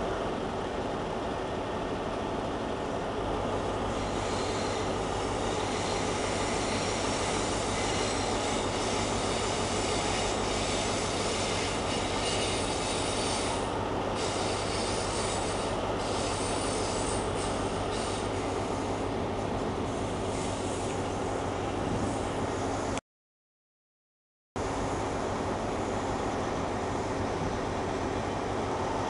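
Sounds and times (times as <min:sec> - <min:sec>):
train rumbling on track: 0:00.0 - 0:23.0, 0:24.6 - 0:29.0.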